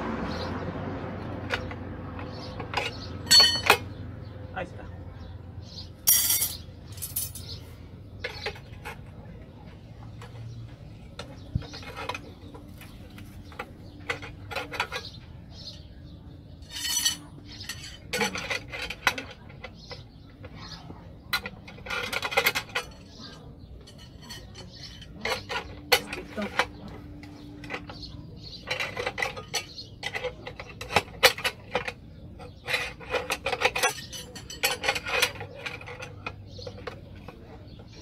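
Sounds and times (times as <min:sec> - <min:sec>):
steel rod clinking and scraping: 0:01.2 - 0:04.0, 0:05.7 - 0:09.4, 0:10.0 - 0:38.0.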